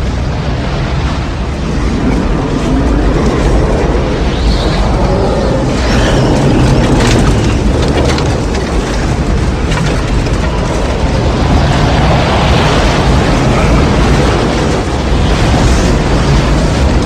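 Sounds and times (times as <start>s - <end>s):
heavy machinery running: 1.0s - 17.0s
debris crunching and breaking: 1.7s - 17.0s.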